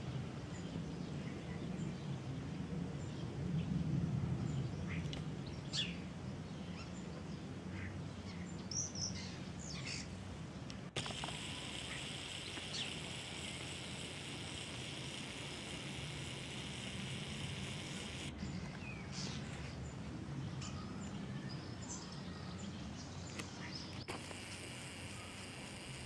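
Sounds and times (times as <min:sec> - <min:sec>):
birds chattering: 0:04.9 - 0:26.0.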